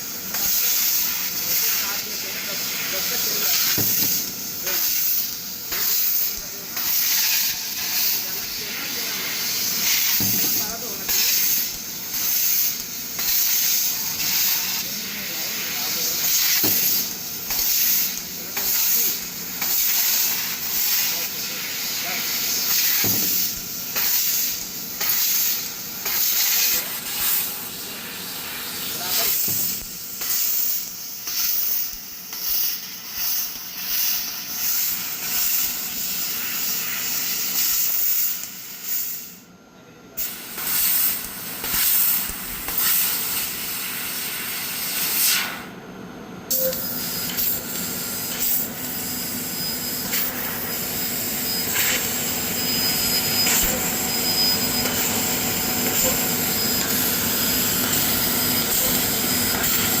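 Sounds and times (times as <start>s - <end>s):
laser cutter hissing: 0.0s - 39.5s, 40.2s - 45.8s, 46.4s - 60.0s.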